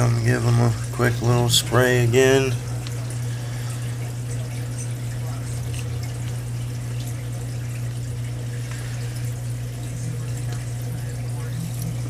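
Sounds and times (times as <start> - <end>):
low hum: 0.0 - 12.0
water trickling and splashing: 0.0 - 12.0.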